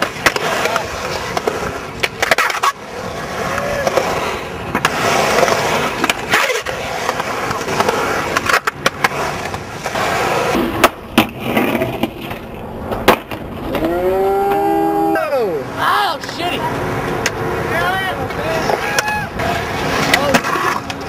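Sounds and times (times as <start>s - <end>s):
skateboard clacking on concrete: 0.0s - 14.8s, 15.7s - 21.0s
skateboard wheels rolling on concrete: 0.0s - 21.0s.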